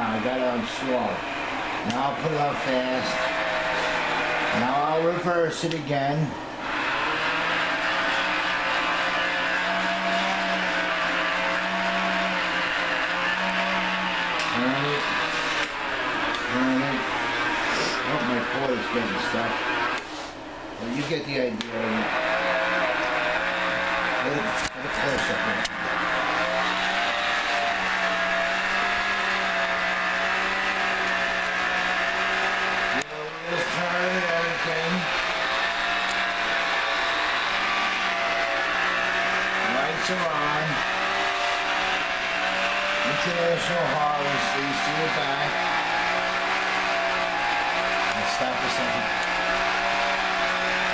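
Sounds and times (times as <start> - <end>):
toy tractor motor whirring: 6.7 - 17.0, 17.7 - 20.1, 21.7 - 50.9.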